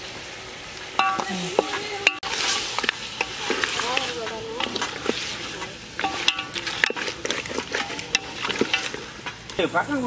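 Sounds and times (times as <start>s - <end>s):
chicken sizzling in a pot: 0.0s - 10.0s
ladle scraping and knocking pot: 1.0s - 9.5s.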